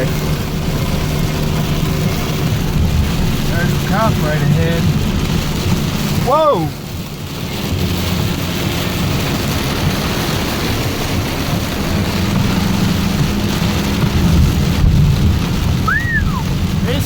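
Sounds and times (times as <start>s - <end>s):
rain beating on truck cab: 0.0s - 17.0s
truck engine drone: 0.0s - 17.0s
water washing over road: 0.0s - 17.0s.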